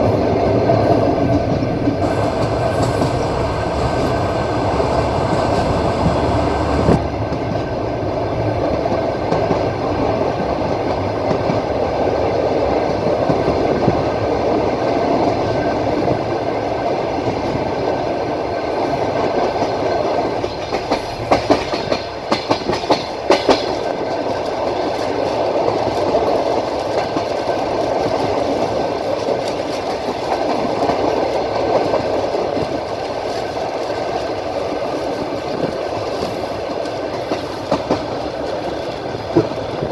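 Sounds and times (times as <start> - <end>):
train wheels rumbling: 0.0 - 39.9
wheels clacking over rail joints: 0.1 - 16.4, 18.7 - 39.9.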